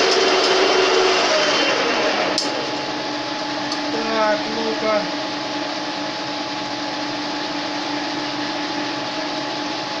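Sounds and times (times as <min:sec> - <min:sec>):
metal lathe humming: 0:00.0 - 0:10.0.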